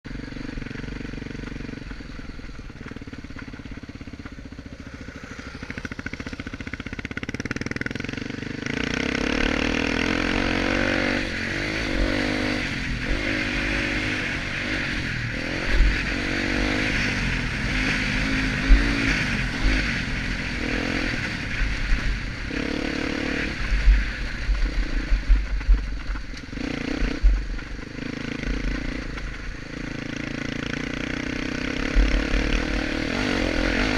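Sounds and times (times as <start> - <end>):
motorcycle engine revving: 0.1 - 33.9
steady rushing noise: 0.1 - 33.9.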